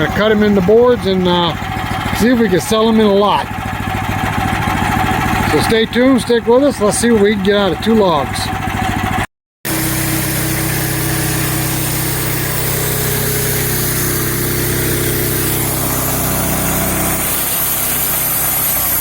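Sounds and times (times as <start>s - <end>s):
small gasoline engine running: 0.0s - 19.0s.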